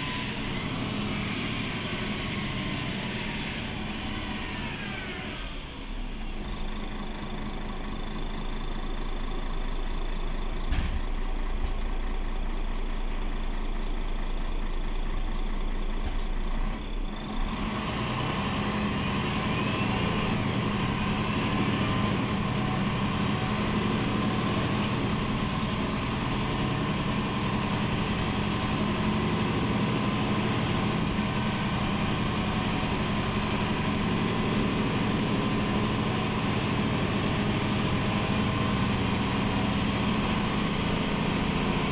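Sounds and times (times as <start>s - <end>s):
bus diesel engine: 0.0s - 41.9s
road noise: 0.0s - 41.9s.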